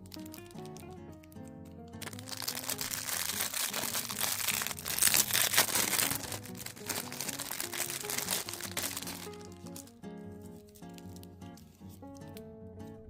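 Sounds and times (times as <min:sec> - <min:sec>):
plastic packaging crinkling: 0:00.0 - 0:12.3
background music: 0:00.0 - 0:13.0.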